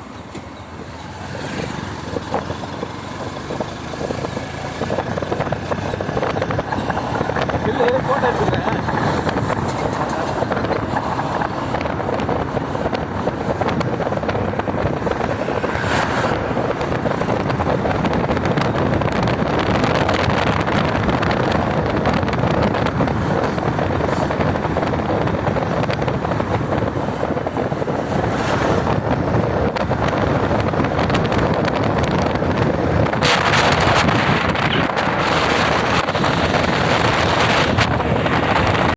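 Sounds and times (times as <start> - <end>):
motorcycle engine: 0.0 - 38.9
wind rushing over microphone: 0.0 - 38.9.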